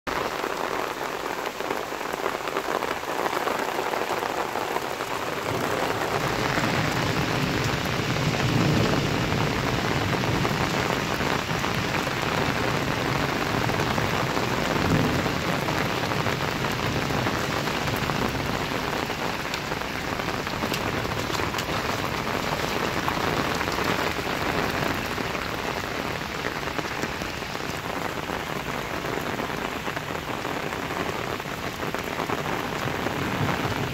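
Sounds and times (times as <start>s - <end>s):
heavy rain on standing water: 0.1s - 33.9s.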